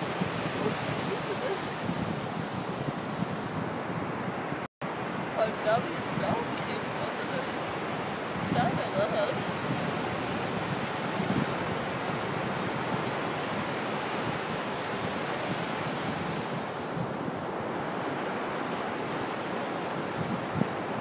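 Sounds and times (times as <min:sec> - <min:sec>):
surf on sandy beach: 0:00.0 - 0:21.0
wind buffeting microphone: 0:00.0 - 0:21.0.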